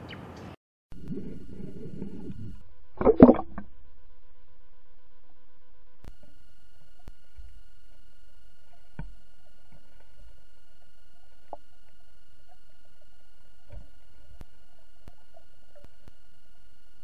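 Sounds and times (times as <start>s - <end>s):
faint electronic tones: 0.9s - 17.0s.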